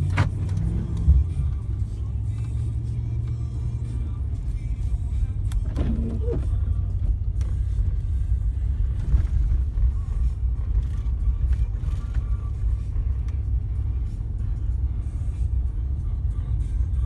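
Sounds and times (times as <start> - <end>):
pickup truck rumbling inside cab: 0.0 - 17.0.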